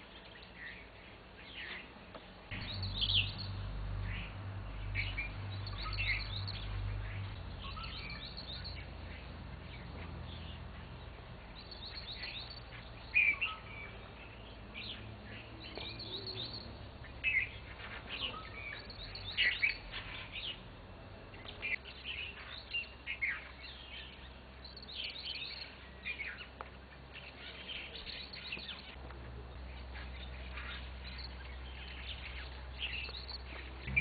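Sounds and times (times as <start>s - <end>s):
small birds chirping and calling: 0.0s - 34.0s.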